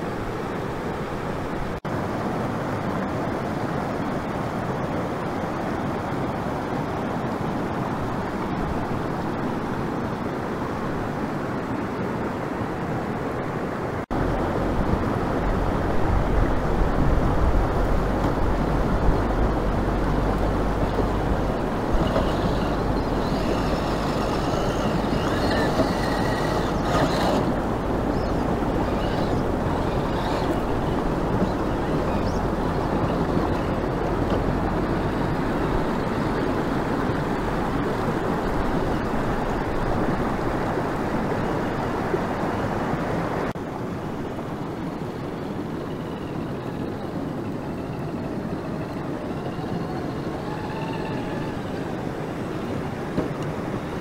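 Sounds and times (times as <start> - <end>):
creek rushing over rocks: 0.0 - 44.7
wind rumble on microphone: 0.0 - 54.0.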